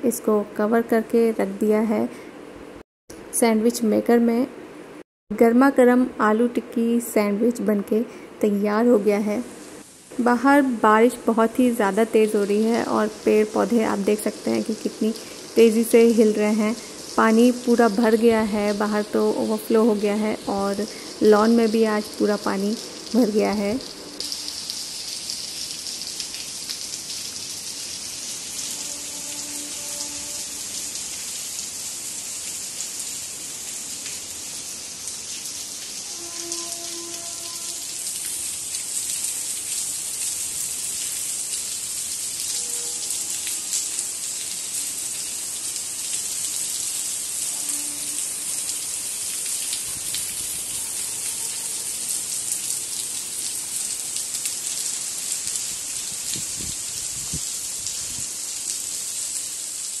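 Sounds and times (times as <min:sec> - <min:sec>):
heavy rain on pavement: 0:09.4 - 1:00.0.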